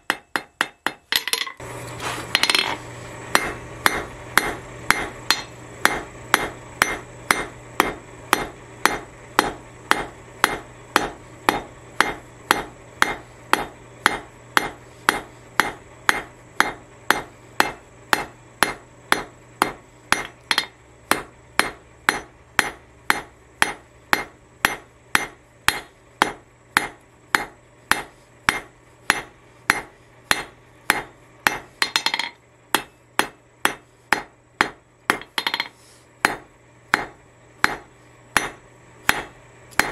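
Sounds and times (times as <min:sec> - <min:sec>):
hammer striking metal on anvil: 0:00.0 - 0:01.6, 0:02.3 - 0:39.9.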